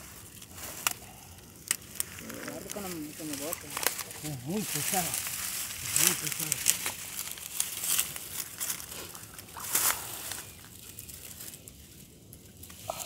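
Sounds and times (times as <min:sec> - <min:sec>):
dry grass rustling and crackling: 0:00.0 - 0:13.0.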